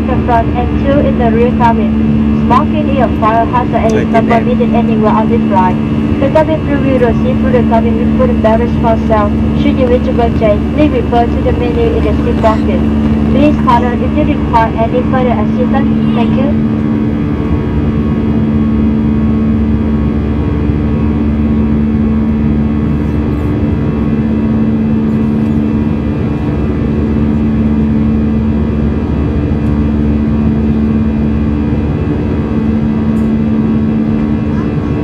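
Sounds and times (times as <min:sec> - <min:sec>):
jet engines droning in cabin: 0:00.0 - 0:35.0.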